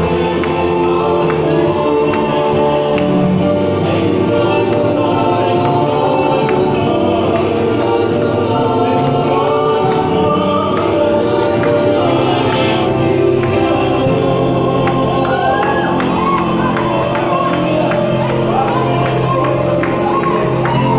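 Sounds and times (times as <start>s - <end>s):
choir and congregation singing hymn: 0.0s - 20.9s.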